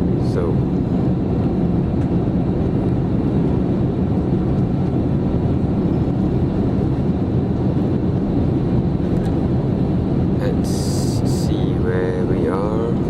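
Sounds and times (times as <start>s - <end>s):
aircraft cabin engine roar: 0.0s - 13.0s.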